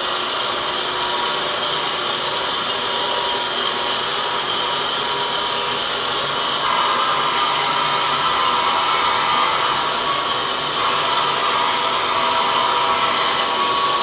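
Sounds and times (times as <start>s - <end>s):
model locomotive engine sound: 0.0s - 14.0s.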